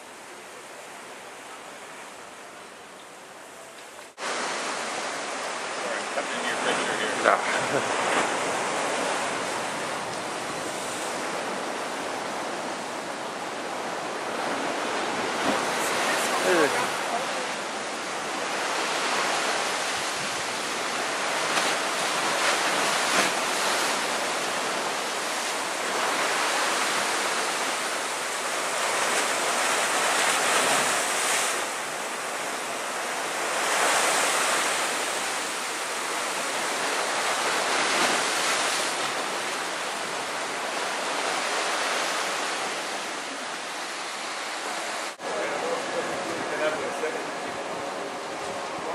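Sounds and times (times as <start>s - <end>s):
sea waves washing onto shore: 0.0s - 48.9s.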